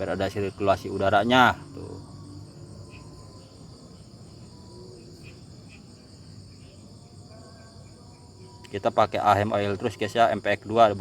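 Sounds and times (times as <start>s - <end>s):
crickets and insects chorus: 0.0s - 11.0s.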